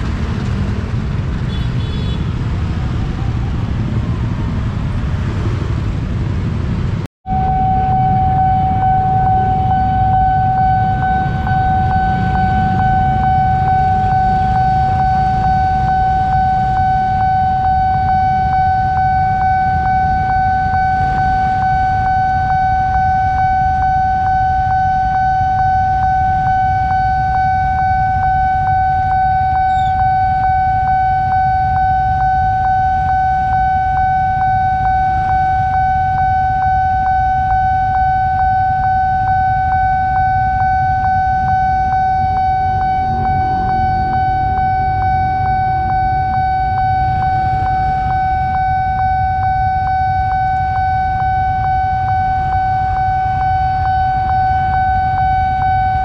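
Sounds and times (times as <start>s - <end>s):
idling motorcycles and cars: 0.0s - 56.0s
level crossing alarm high tone: 7.3s - 56.0s.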